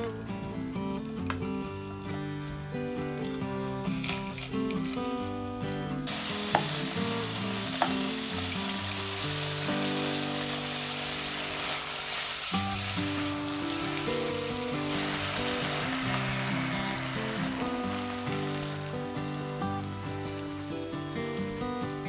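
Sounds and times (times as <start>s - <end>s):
background music: 0.0s - 22.0s
seafood sizzling in a frying pan: 3.6s - 22.0s.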